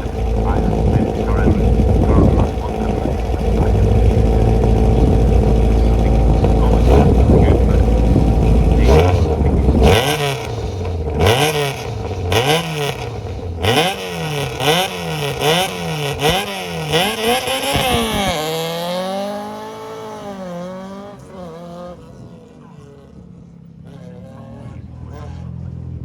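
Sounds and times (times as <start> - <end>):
sharp exhaust cracks: 0.0 - 21.4
rally car engine revving: 0.0 - 26.0.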